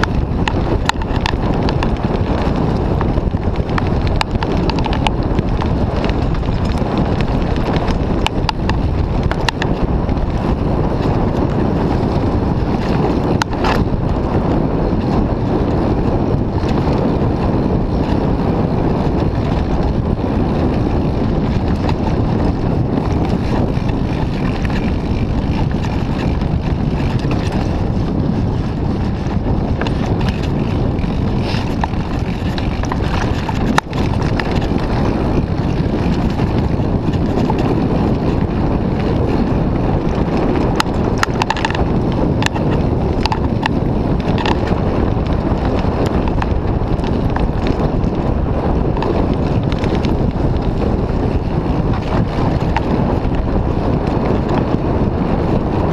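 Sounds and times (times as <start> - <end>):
bike rattles and knocks: 0.0 - 55.9
tyres rolling over dirt trail: 0.0 - 55.9
wind buffeting microphone: 0.0 - 55.9.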